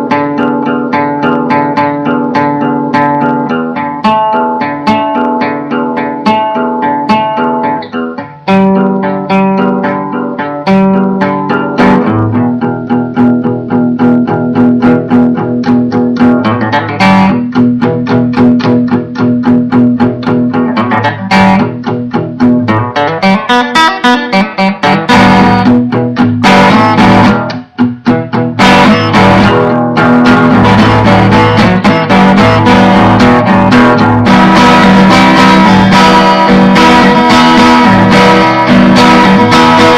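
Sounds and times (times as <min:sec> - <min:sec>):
plucked string instrument: 0:00.0 - 0:39.9.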